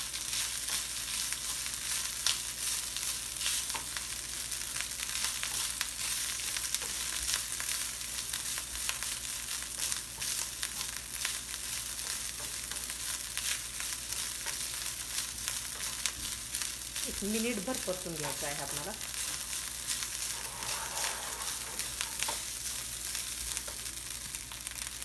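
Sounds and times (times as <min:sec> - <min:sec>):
rice sizzling in a frying pan: 0:00.0 - 0:25.0.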